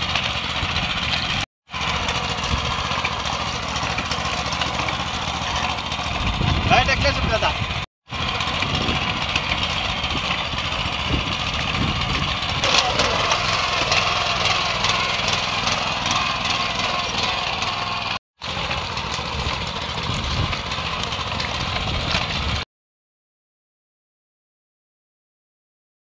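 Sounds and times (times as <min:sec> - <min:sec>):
small engine running: 0:00.0 - 0:22.6.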